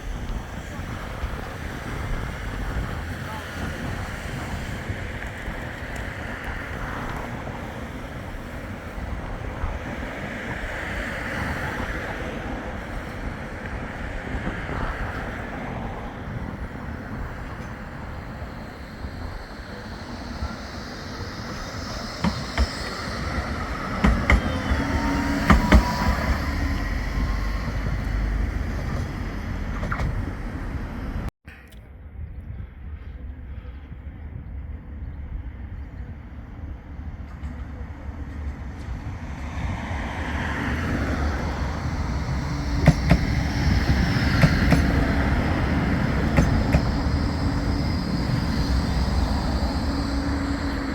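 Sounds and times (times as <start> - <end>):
tram rumbling along track: 0.0 - 31.3, 31.9 - 50.9.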